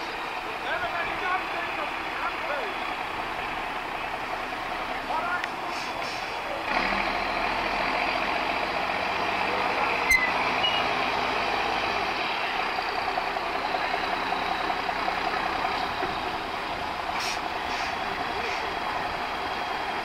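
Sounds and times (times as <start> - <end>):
truck diesel engine under load: 0.0 - 20.0.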